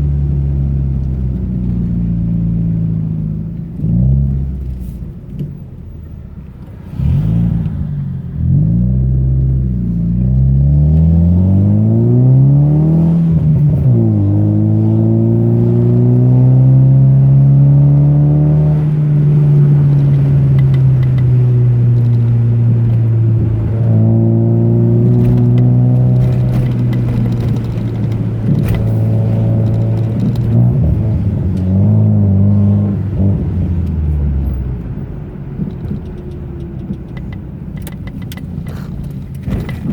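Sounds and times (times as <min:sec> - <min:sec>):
car engine revving: 0:06.4 - 0:39.9.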